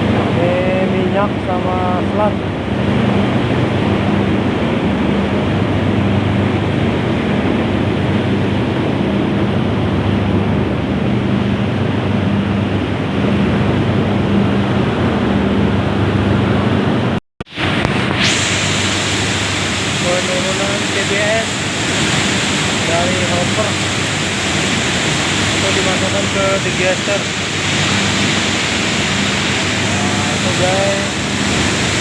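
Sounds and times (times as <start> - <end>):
low hum: 0.0 - 32.0
mill machinery running: 0.0 - 32.0.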